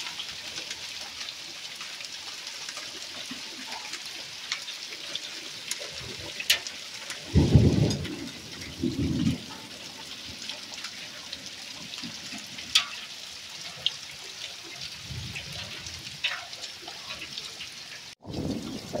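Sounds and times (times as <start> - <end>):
heavy rain and hail on ground: 0.0 - 19.0.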